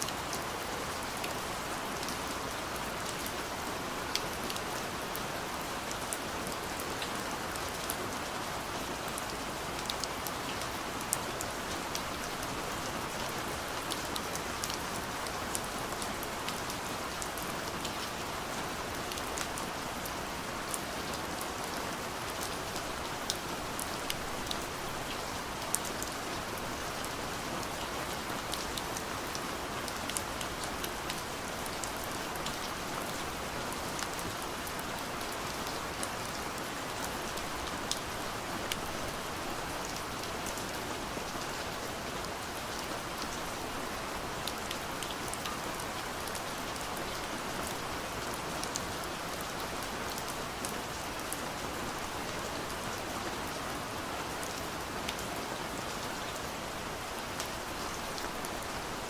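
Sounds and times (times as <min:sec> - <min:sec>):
rain pattering on a window: 0:00.0 - 0:59.0.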